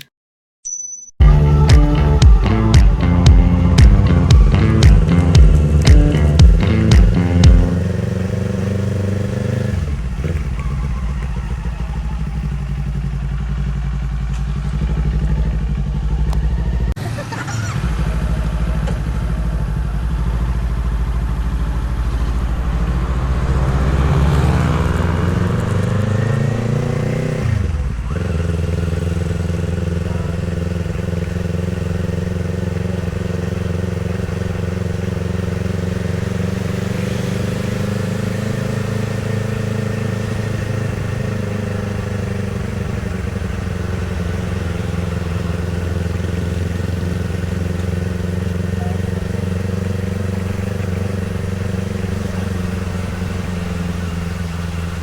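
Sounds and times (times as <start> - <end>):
motorcycle engine revving: 1.2 - 55.0.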